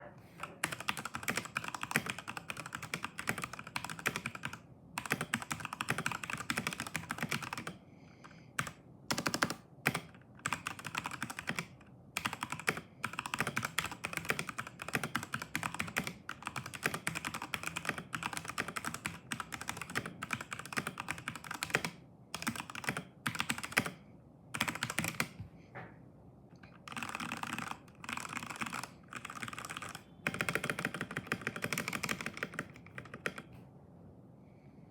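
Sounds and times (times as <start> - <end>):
mechanical keyboard typing: 0.4 - 25.4, 26.7 - 33.6.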